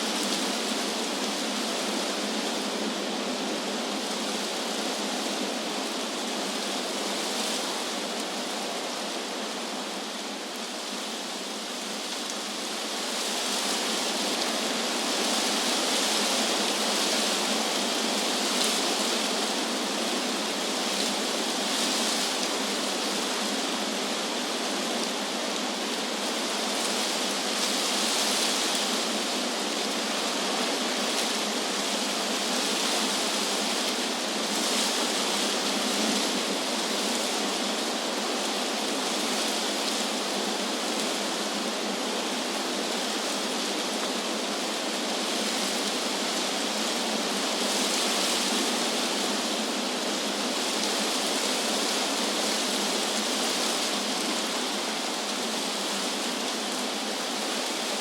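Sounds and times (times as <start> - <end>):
wind blowing through tree leaves: 0.0 - 58.0.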